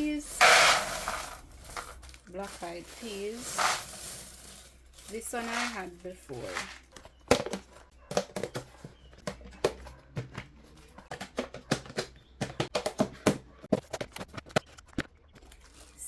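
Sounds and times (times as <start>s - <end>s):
plastic containers and legumes clicking: 0.0s - 16.0s.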